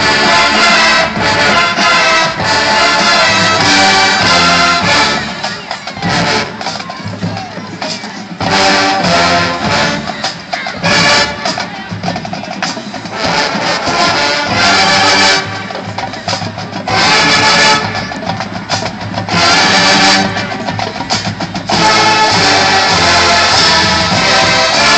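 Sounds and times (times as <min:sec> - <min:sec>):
marching band playing: 0:00.0 - 0:24.9.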